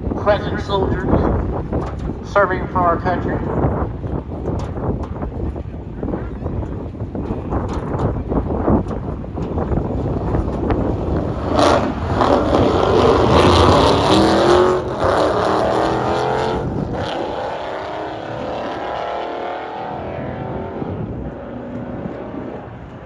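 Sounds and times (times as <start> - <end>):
drag racing cars accelerating: 0.0 - 23.0.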